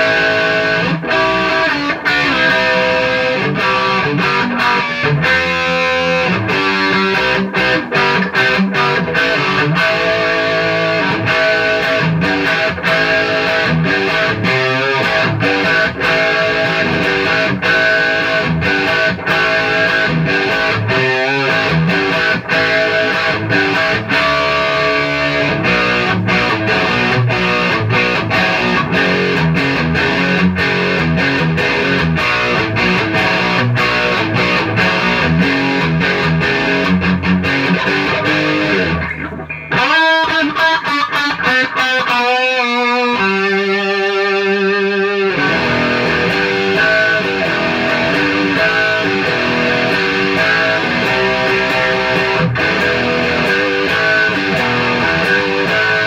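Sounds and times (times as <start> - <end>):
distorted electric guitar chords: 0.0 - 56.0.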